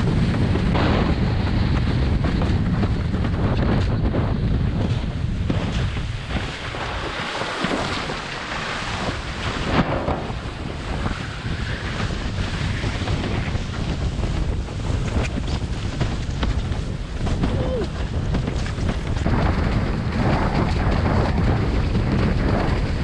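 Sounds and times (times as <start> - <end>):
board planing across water: 0.0 - 23.0
wind buffeting microphone: 0.0 - 23.0.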